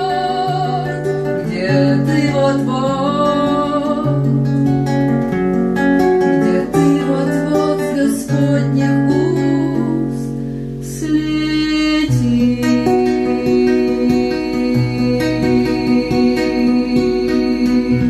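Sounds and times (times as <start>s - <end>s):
woman singing: 0.0s - 4.9s, 5.8s - 18.0s
acoustic guitar: 0.0s - 18.0s.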